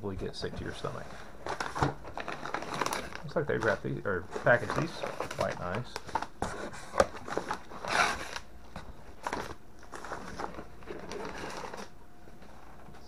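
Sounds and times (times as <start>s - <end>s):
paper mailers rustling: 0.5s - 11.9s.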